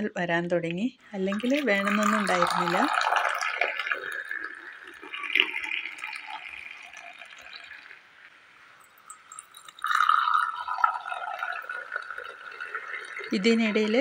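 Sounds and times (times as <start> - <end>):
coffee pouring into mugs: 1.1 - 14.0.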